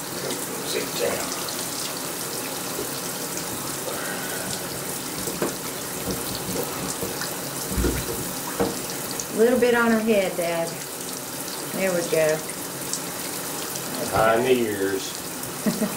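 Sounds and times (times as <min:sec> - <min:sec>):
shower water running: 0:00.0 - 0:15.9.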